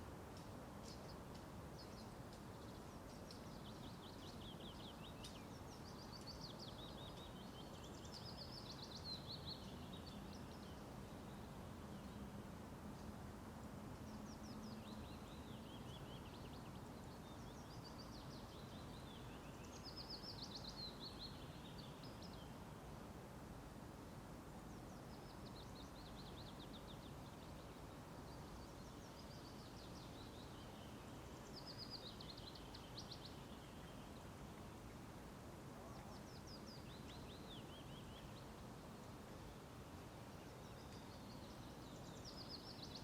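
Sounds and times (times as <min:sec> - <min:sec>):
songbird singing: 0:00.0 - 0:22.9, 0:23.9 - 0:43.0
outdoor hiss: 0:00.0 - 0:43.0.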